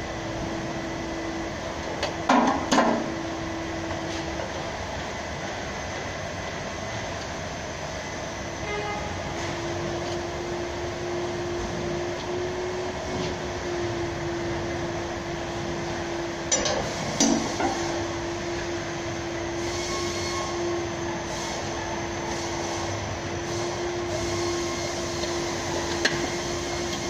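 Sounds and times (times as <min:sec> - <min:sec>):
workshop machinery hum: 0:00.0 - 0:27.0.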